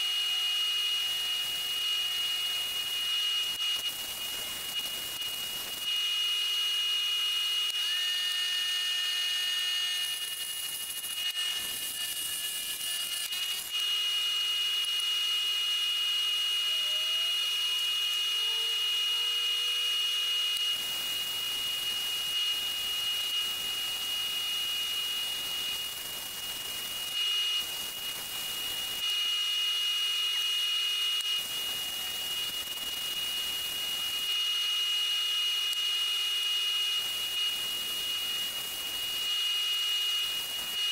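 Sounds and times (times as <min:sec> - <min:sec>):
wood lathe whine: 0:00.0 - 0:40.9.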